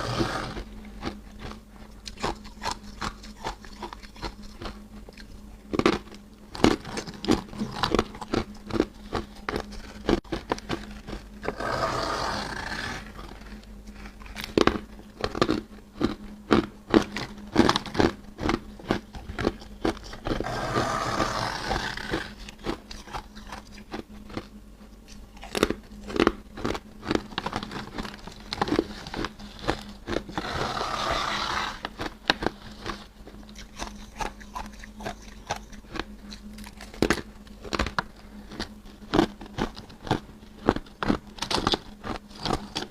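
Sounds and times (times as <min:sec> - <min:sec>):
frost being bitten and chewed: 0:00.0 - 0:42.9.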